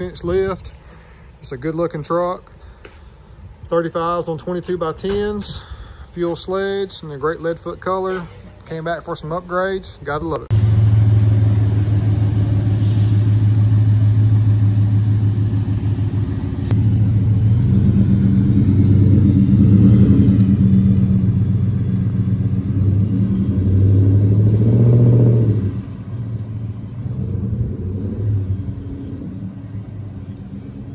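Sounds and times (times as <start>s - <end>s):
truck engine with deep exhaust note: 0.0s - 30.9s.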